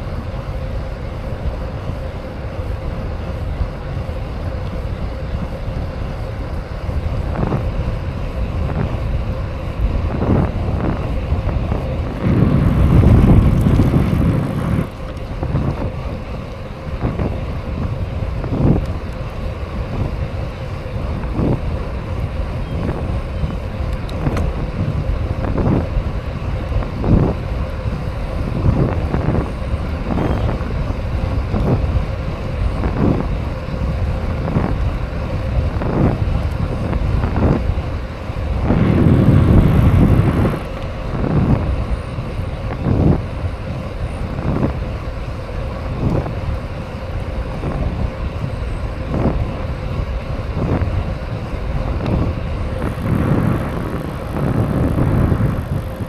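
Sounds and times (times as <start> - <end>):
tyres rolling on pavement: 0.0 - 56.0
wind rushing over microphone: 0.0 - 56.0.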